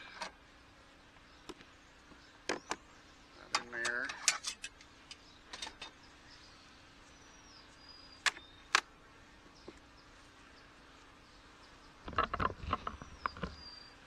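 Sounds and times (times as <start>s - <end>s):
honey bees humming: 0.0s - 14.0s.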